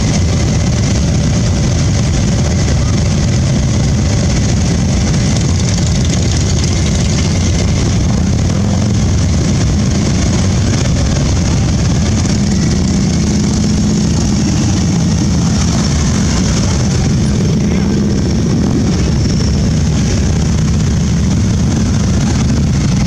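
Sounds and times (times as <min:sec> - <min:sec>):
motorcycle engines idling: 0:00.0 - 0:23.0.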